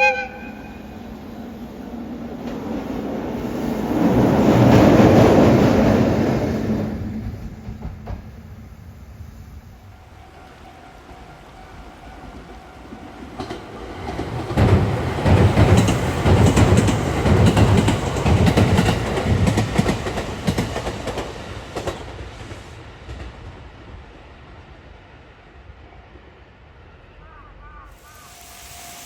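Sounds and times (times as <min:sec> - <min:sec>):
electric locomotive passing: 0:00.0 - 0:29.0.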